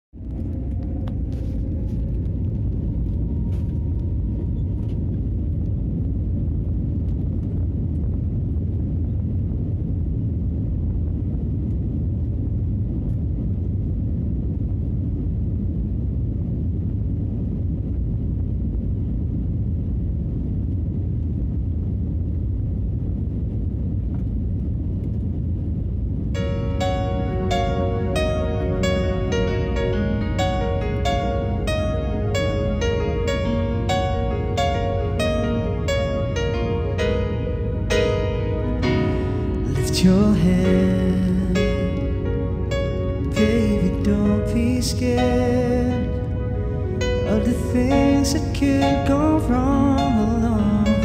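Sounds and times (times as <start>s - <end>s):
faint rising whine: 0.0s - 51.0s
jet cabin low rumble: 0.0s - 51.0s.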